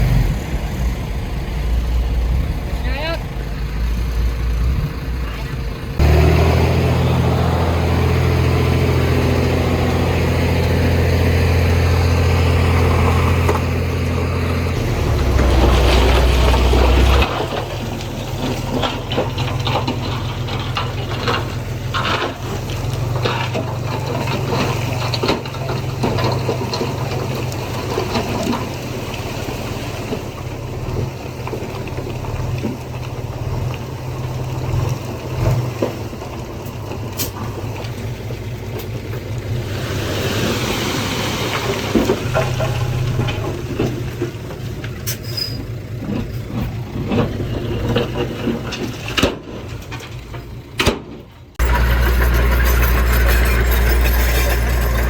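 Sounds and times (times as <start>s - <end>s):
diesel engine rumble: 0.0s - 55.0s
soil and stones crackling: 0.0s - 55.0s.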